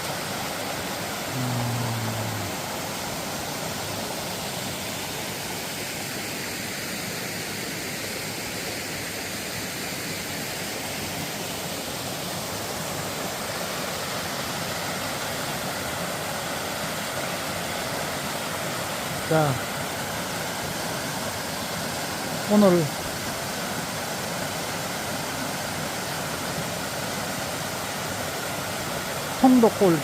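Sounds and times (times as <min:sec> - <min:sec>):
stream rushing over waterfall: 0:00.0 - 0:30.0.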